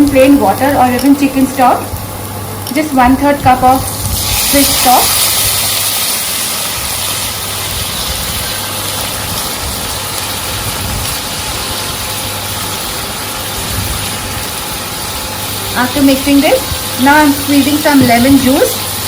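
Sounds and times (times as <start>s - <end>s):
stock sizzling in a pan: 0.0s - 19.0s.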